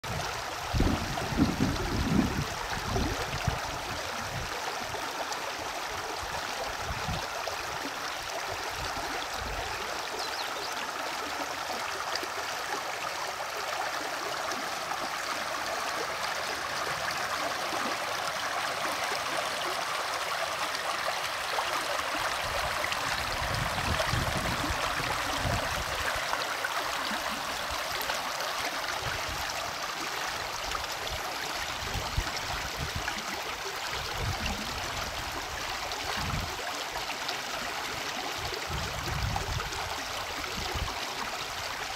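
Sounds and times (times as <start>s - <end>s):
river flowing over stones: 0.1s - 41.9s.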